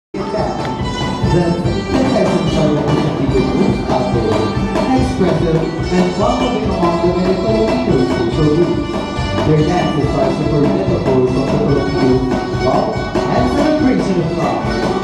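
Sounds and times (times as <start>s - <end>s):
live folk music ensemble: 0.2s - 15.0s.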